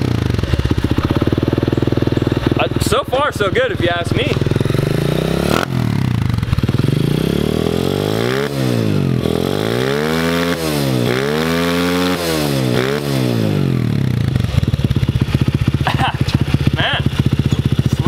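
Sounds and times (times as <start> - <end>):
small motorbike engine revving: 0.0 - 18.0.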